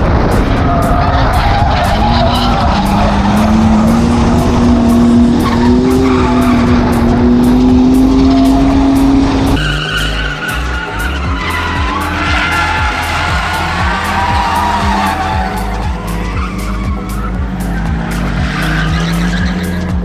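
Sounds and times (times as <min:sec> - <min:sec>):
car engine revving high: 0:00.0 - 0:20.0
tyres skidding: 0:00.0 - 0:20.0.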